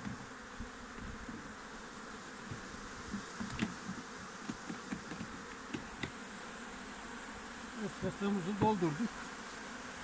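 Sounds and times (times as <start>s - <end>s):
bees buzzing: 0.0s - 10.0s.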